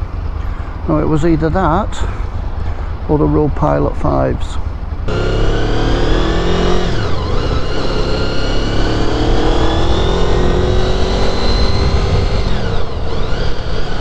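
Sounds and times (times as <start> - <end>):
heavy wind noise: 0.0 - 14.0
motorcycle engine accelerating: 0.0 - 14.0.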